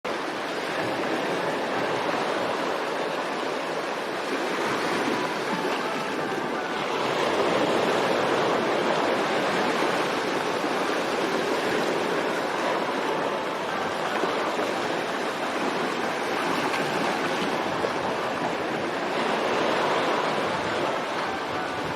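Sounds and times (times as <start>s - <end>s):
rushing water: 0.1s - 21.9s.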